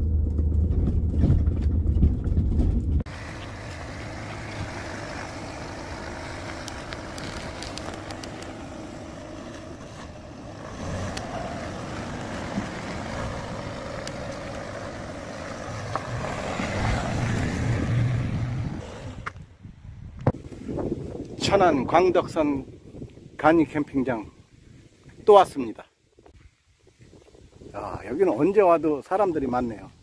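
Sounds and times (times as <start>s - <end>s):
wind buffeting microphone: 0.6s - 28.6s.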